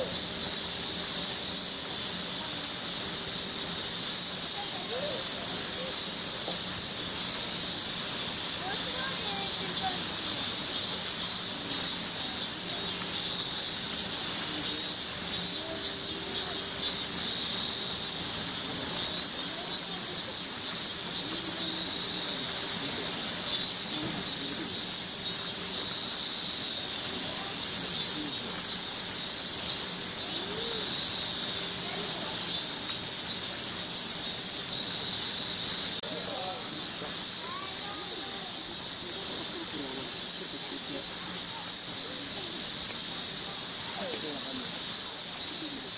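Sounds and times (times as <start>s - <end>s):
cicadas buzzing: 0.0s - 45.9s
pulsing insect call: 0.0s - 45.9s.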